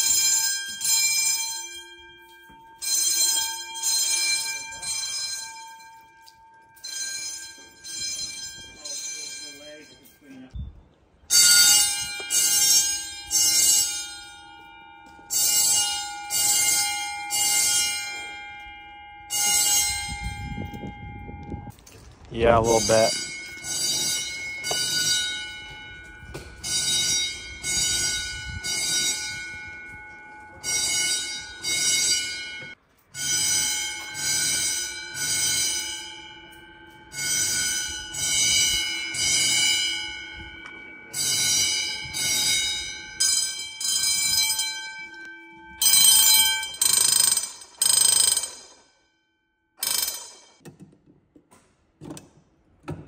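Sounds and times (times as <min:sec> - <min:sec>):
fire alarm bells ringing: 0:00.0 - 0:10.6, 0:11.2 - 0:50.6.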